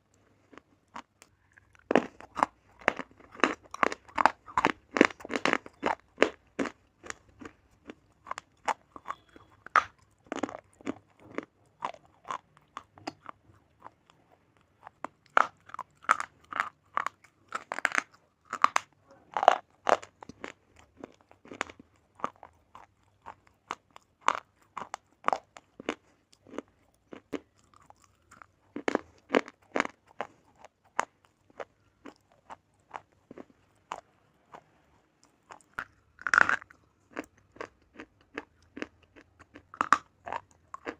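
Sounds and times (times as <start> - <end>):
crunching and chewing slate pencil: 0.0 - 40.9.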